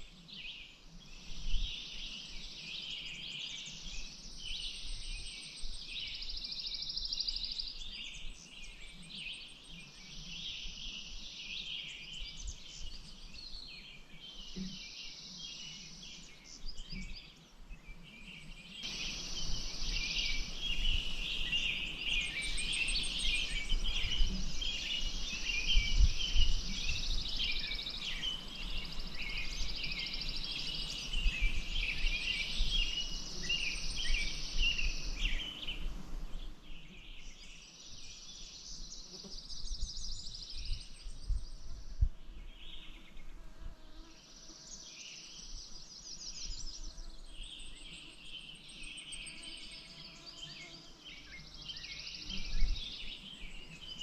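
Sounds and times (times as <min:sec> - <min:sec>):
birds singing and chirping: 0:00.3 - 0:43.4, 0:44.3 - 0:54.0.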